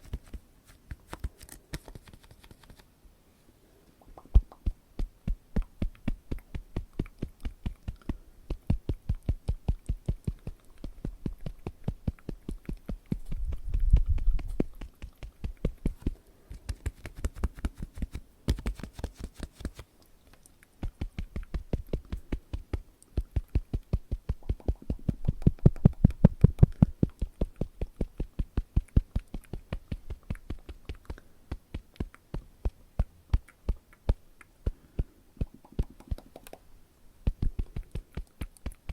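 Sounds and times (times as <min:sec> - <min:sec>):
fingertip tapping: 0:04.2 - 0:19.8, 0:20.4 - 0:36.6.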